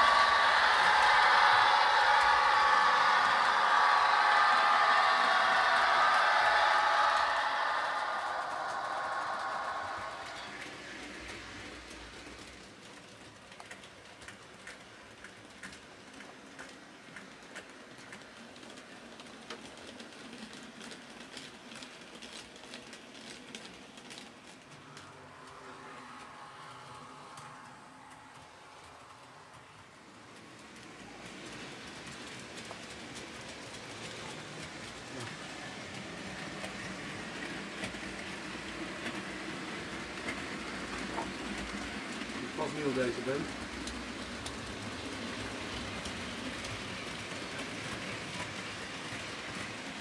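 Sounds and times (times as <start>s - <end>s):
model train running hum: 0.0s - 50.0s
wheels clicking over rails: 0.0s - 50.0s.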